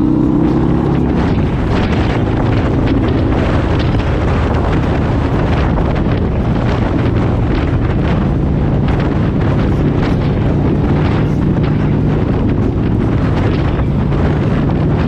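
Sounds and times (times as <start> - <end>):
motorcycle engine cruising: 0.0 - 15.0
wind noise on microphone: 0.0 - 15.0.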